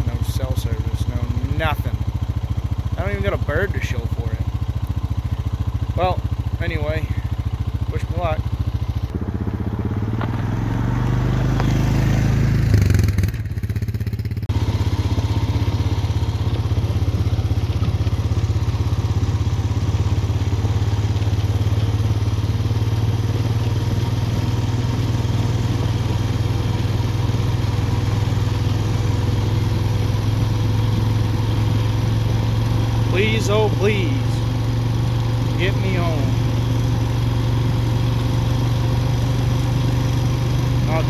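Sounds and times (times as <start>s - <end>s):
quad bike engine: 0.0s - 41.0s.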